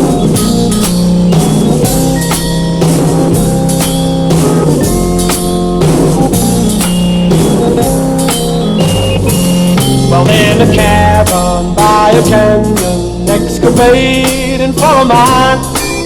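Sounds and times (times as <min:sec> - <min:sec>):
band music with drums and guitar: 0:00.0 - 0:16.0.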